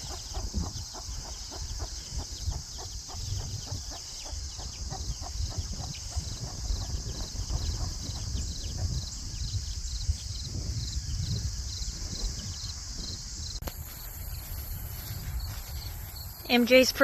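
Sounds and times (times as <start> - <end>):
insects chirping in grass: 0.0 - 17.0
wind rumble on microphone: 0.0 - 17.0.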